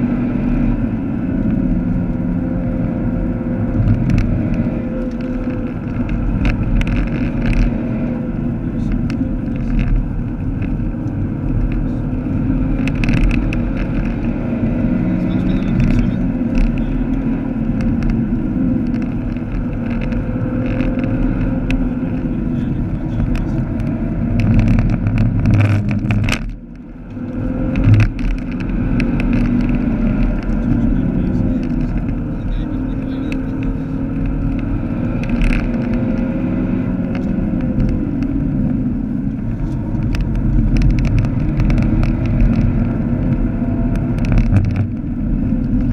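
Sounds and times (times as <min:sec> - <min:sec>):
car engine at speed: 0:00.0 - 0:45.9
tyre and road noise: 0:00.0 - 0:45.9.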